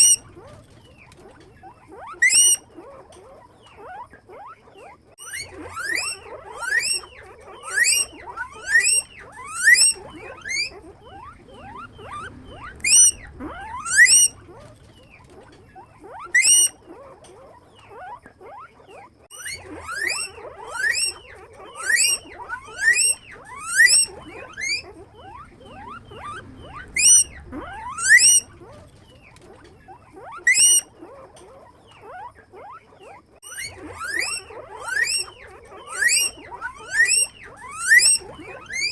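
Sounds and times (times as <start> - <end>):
guinea pigs wheeking: 0.0 - 38.9
soft squeaks: 0.0 - 38.9.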